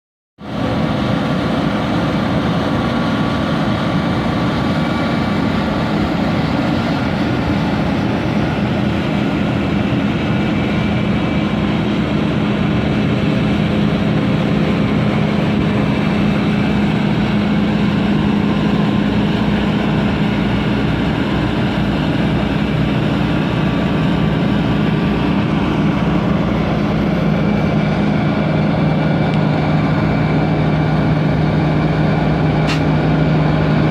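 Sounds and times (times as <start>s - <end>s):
combine harvester engine drone: 0.4s - 33.9s
high machinery whine: 0.4s - 33.9s.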